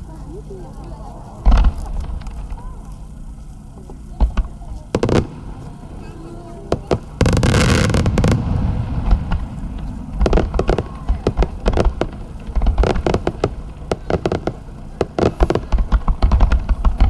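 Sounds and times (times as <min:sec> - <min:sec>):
firework bangs and crackles: 0:00.0 - 0:17.0
firework boom: 0:01.4 - 0:17.0.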